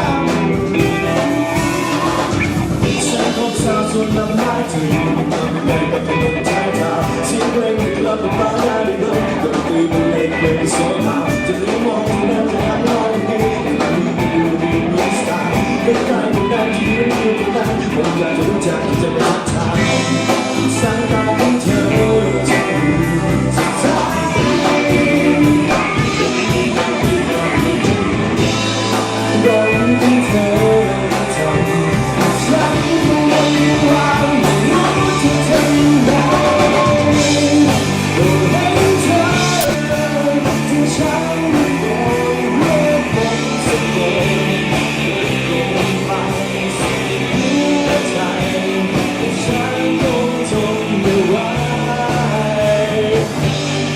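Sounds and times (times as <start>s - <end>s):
person singing: 0.0s - 53.9s
rock band playing: 0.0s - 53.9s.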